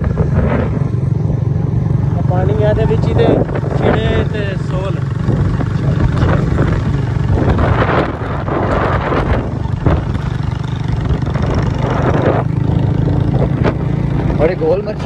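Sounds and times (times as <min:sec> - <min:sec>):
gusty noise: 0:00.0 - 0:14.6
engine running steadily: 0:00.0 - 0:15.0.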